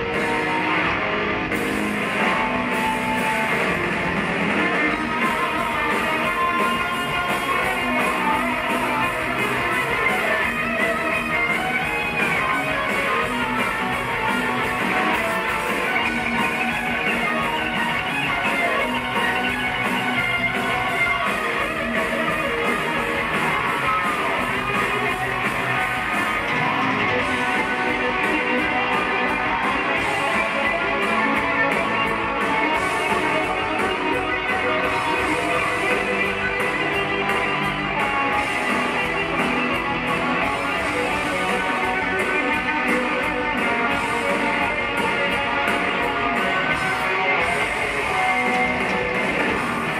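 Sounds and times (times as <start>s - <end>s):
heavy metal band playing live: 0.0s - 49.9s.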